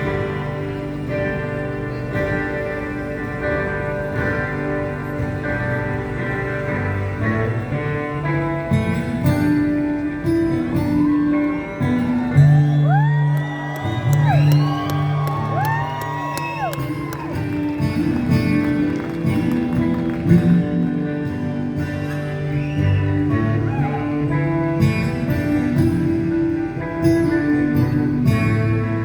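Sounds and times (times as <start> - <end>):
strummed acoustic guitar: 0.0 - 15.6, 16.2 - 29.0
rock band playing live: 0.0 - 29.0.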